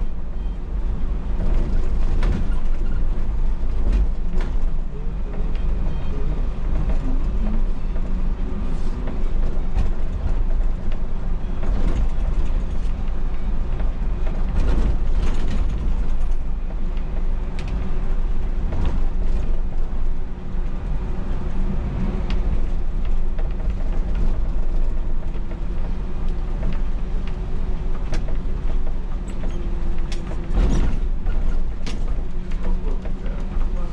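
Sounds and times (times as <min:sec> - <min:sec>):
bus engine rumble: 0:00.0 - 0:33.9
creaks and rattles of bus fittings: 0:00.0 - 0:33.9.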